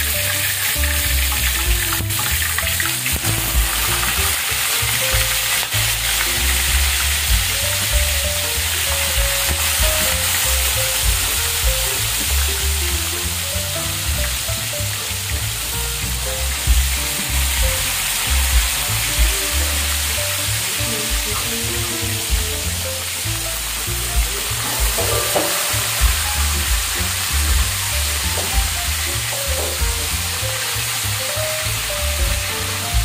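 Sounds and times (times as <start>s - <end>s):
background music with bass line: 0.0s - 33.0s
fish sizzling in hot oil: 0.0s - 33.0s.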